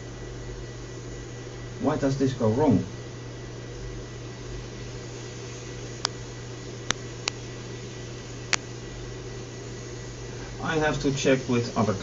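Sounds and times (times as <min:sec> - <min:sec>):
low fan-like hum: 0:00.0 - 0:12.0.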